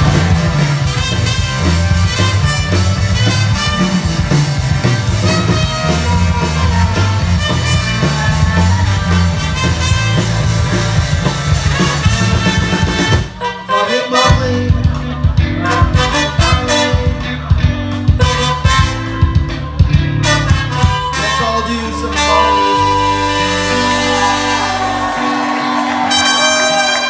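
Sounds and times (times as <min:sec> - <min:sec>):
trumpet: 0:00.0 - 0:15.0, 0:15.6 - 0:27.0
bass: 0:00.0 - 0:27.0
distorted electric guitar: 0:00.0 - 0:27.0
drums: 0:00.0 - 0:27.0
trombone: 0:00.0 - 0:27.0.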